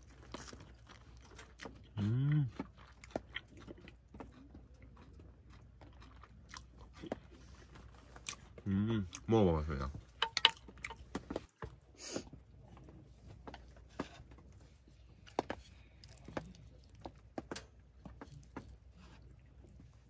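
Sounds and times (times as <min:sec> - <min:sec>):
chewing: 0:00.0 - 0:09.3, 0:10.1 - 0:20.0.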